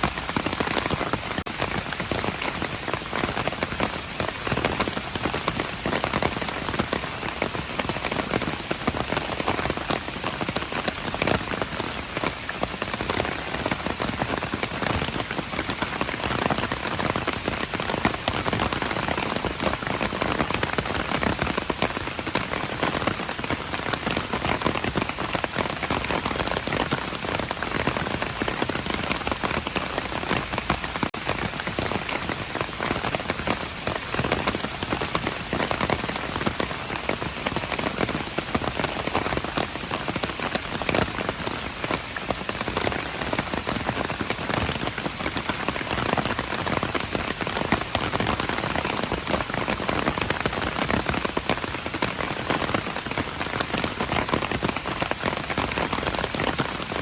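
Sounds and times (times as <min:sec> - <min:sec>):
rain pattering on hard surfaces: 0:00.0 - 0:57.0.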